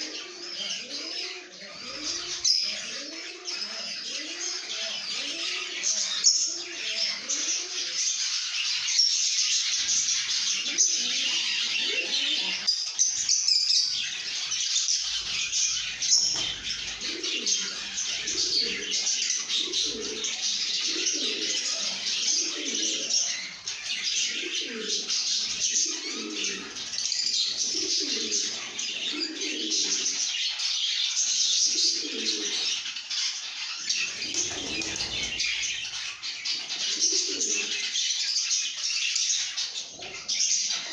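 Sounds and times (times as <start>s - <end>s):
lovebirds chattering and chirping: 0.0s - 40.9s.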